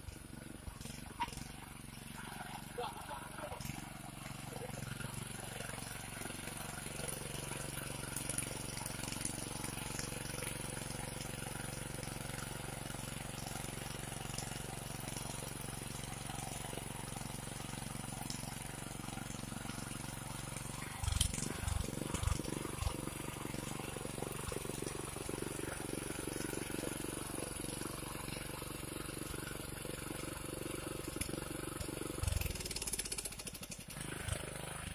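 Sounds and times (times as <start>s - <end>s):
small engine running: 0.0s - 34.9s
tines churning soil: 0.0s - 34.9s.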